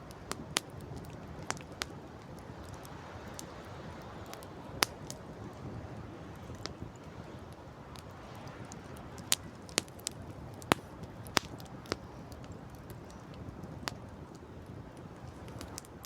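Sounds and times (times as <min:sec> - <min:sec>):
campfire crackling pops: 0:00.0 - 0:16.0
sea: 0:00.0 - 0:16.0
wind: 0:00.0 - 0:16.0.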